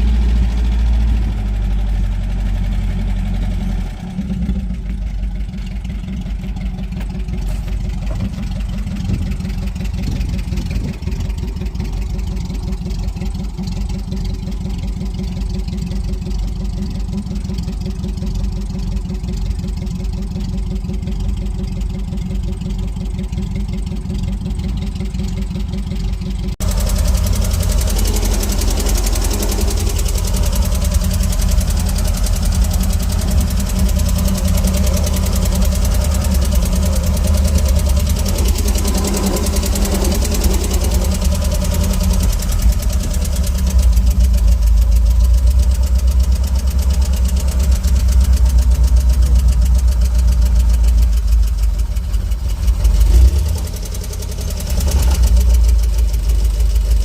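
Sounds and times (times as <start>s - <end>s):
van engine idling: 0.0s - 57.0s.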